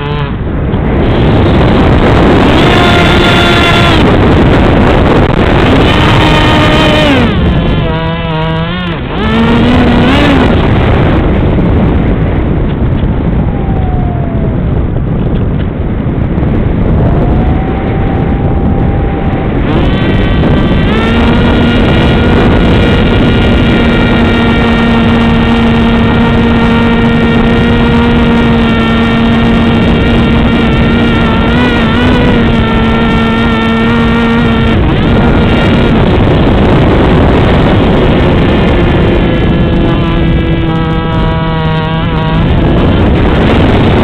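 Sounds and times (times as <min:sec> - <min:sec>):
electric motor propeller whining: 0:00.0 - 0:12.2, 0:13.2 - 0:15.4, 0:16.8 - 0:44.0
wind rushing over microphone: 0:00.0 - 0:44.0.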